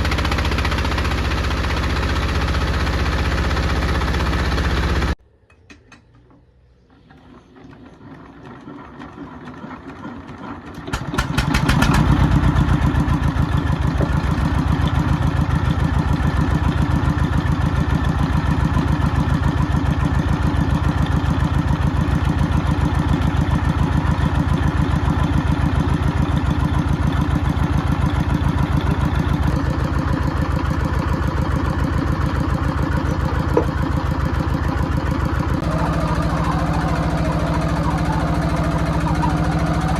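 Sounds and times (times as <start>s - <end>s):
combustion engine running: 0.0s - 5.2s, 6.2s - 39.9s.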